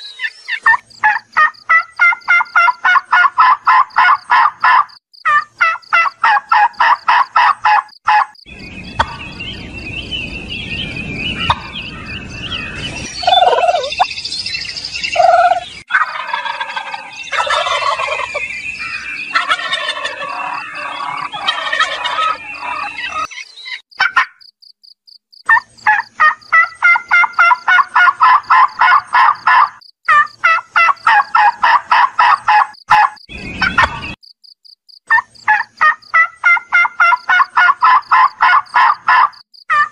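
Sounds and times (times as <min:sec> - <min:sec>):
turkeys gobbling: 0:00.2 - 0:08.4, 0:09.0 - 0:09.4, 0:11.4 - 0:11.9, 0:12.5 - 0:14.1, 0:15.2 - 0:23.4, 0:24.0 - 0:24.4, 0:25.5 - 0:34.1, 0:35.1 - 0:39.9.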